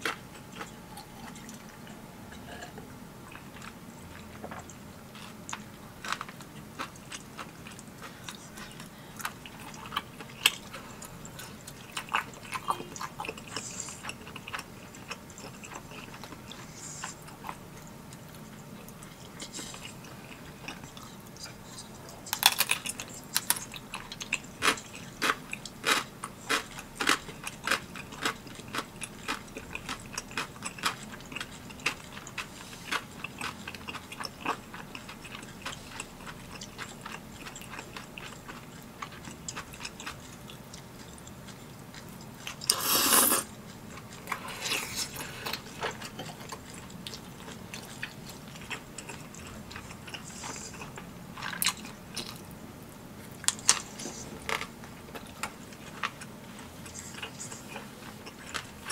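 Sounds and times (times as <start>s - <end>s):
close-up chewing and biting: 0.0s - 52.6s, 53.2s - 58.9s.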